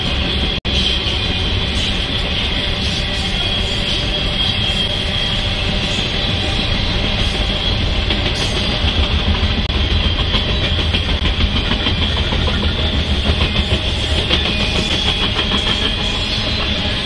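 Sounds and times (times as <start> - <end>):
freight train rumbling past: 0.0 - 17.0
train wheels clacking over rail joints: 0.0 - 17.0.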